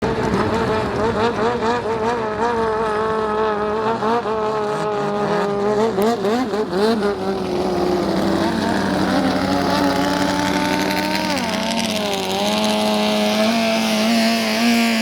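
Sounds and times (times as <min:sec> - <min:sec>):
speedboat engine revving: 0:00.0 - 0:15.0.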